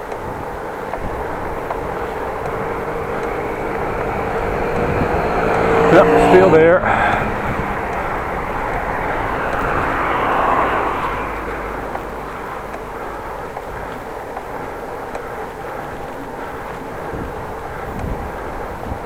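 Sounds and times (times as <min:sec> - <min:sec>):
road and wind noise: 0:00.0 - 0:19.0
vehicle passing: 0:00.0 - 0:19.0.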